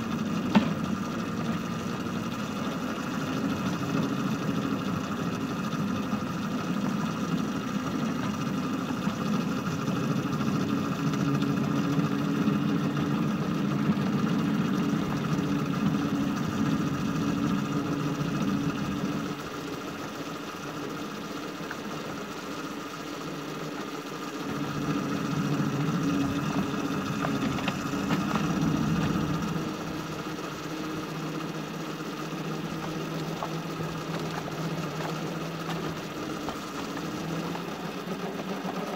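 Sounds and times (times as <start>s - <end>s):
small locomotive engine running: 0.0s - 38.9s.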